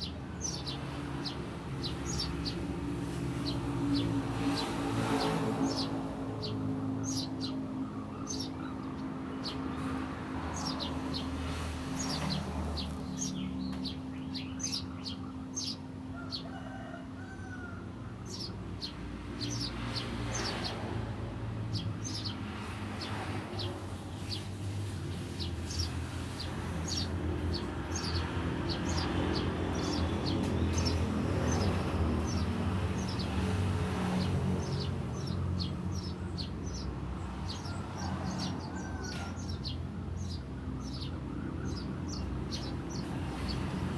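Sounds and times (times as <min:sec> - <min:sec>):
sparrows chirping: 0:00.0 - 0:43.9.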